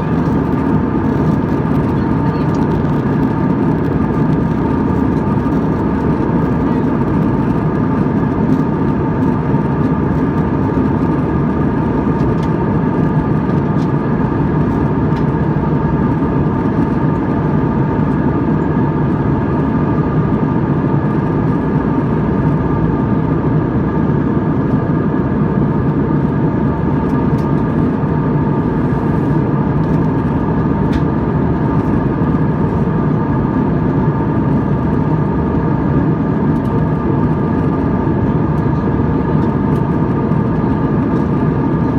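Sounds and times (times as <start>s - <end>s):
faint engine whine: 0.0s - 41.9s
jet engines droning in cabin: 0.0s - 41.9s.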